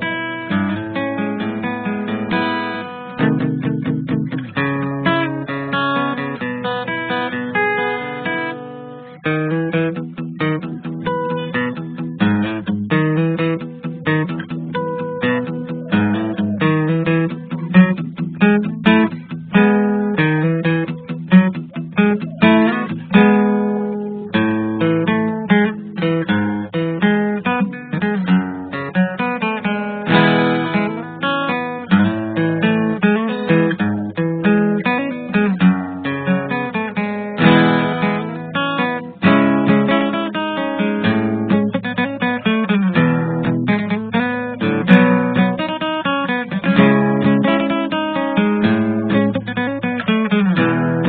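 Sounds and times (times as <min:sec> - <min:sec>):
acoustic guitar plucked and strummed: 0:00.0 - 0:51.0.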